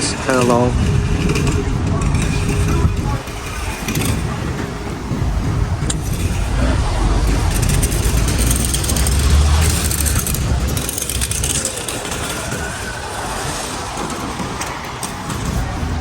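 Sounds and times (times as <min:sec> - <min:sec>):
traffic noise: 0:00.0 - 0:16.0
vehicle passing with tyre noise: 0:00.0 - 0:16.0.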